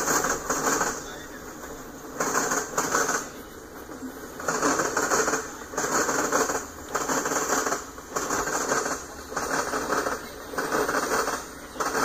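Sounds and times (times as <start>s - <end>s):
train wheels clattering over track: 0.0s - 12.0s.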